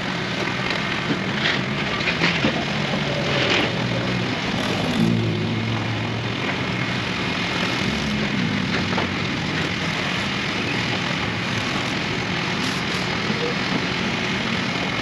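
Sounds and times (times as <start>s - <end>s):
heavy engine droning: 0.0s - 15.0s
outdoor noise rush: 0.0s - 15.0s.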